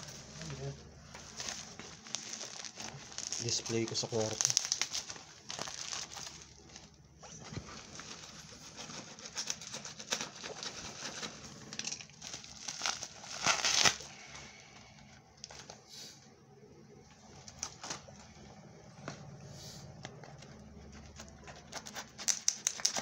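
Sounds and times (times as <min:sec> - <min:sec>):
bubble wrap crinkling: 0:00.0 - 0:15.9, 0:17.0 - 0:23.0.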